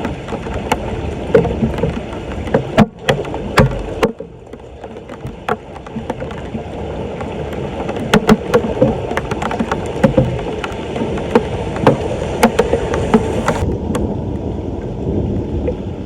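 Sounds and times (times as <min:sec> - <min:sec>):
floodwater washing into a drain: 0:00.0 - 0:14.1
splashes and knocks: 0:00.0 - 0:14.2.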